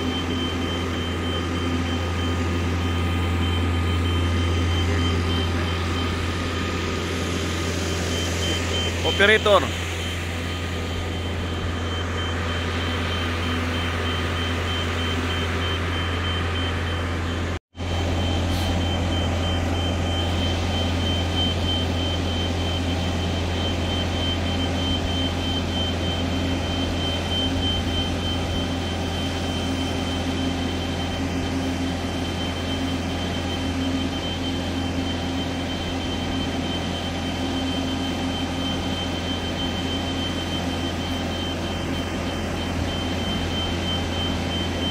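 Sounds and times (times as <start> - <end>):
diesel engine deep drone: 0.0 - 44.9
thin high whine: 0.0 - 44.9.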